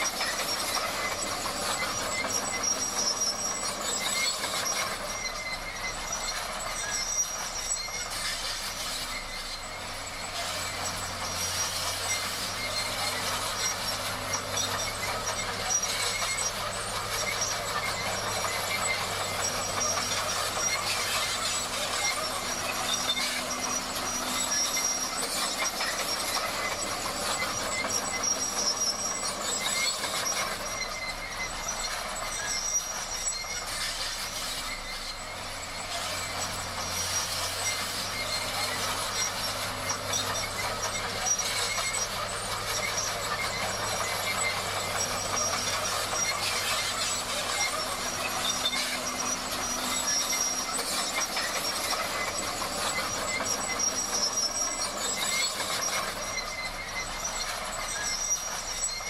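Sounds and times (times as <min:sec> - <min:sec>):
bulldozer engine running: 0:00.0 - 0:59.0
squeal and clatter of steel tracks: 0:00.0 - 0:59.0.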